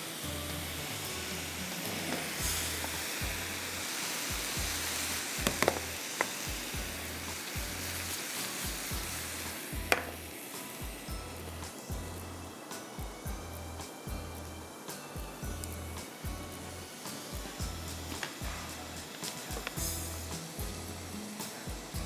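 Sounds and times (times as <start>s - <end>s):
food sizzling in hot oil: 0.0s - 22.0s
background music with pulsing bass: 2.4s - 3.7s, 4.3s - 5.9s, 6.5s - 10.2s, 10.8s - 22.0s.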